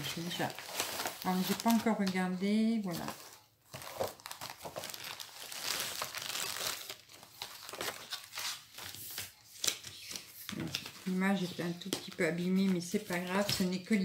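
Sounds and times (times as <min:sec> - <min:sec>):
packaging crinkling and tearing: 0:00.0 - 0:13.6.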